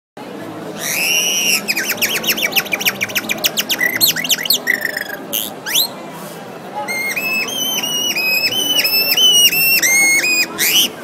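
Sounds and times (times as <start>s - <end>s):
person whistling bird calls: 0.8s - 5.9s, 6.9s - 11.0s.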